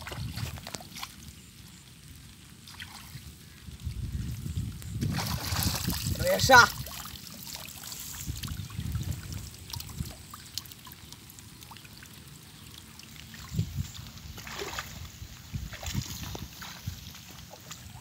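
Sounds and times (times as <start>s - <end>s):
water dripping and trickling: 0.0s - 18.0s.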